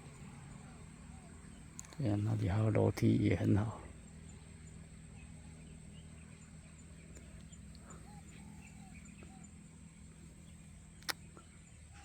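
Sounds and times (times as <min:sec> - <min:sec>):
faint bird chirps: 0:00.0 - 0:12.0
steady low hum: 0:00.0 - 0:12.0.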